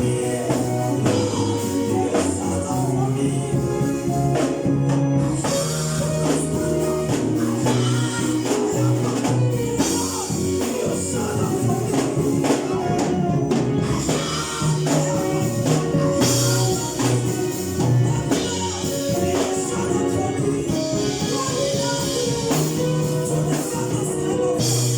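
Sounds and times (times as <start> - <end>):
choir singing: 0.0 - 24.9
instrumental accompaniment: 0.0 - 24.9
shaken percussion beat: 0.0 - 24.9.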